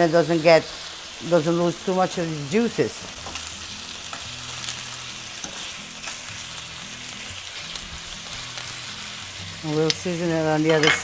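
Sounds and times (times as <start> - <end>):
chicken sizzling in a frying pan: 0.0 - 11.0.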